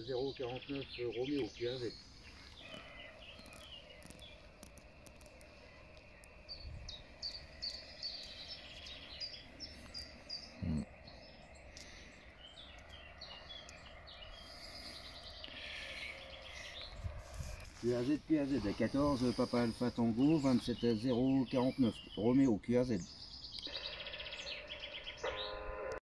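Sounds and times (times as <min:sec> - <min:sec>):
birds chirping and singing: 0:00.0 - 0:26.0
faint outdoor background noise: 0:00.0 - 0:26.0.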